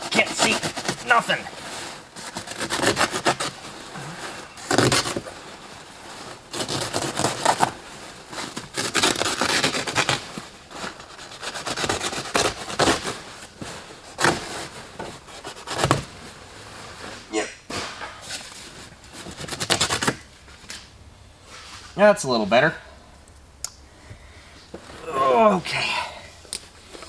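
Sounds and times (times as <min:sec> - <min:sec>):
fabric and plastic scraping: 0:00.0 - 0:20.8, 0:24.6 - 0:25.6.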